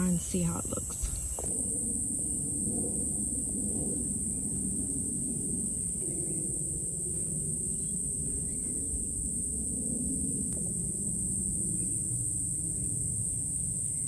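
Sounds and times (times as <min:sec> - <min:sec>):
high-pitched insect chorus: 0:00.0 - 0:14.0
low steady rumble: 0:00.0 - 0:14.0.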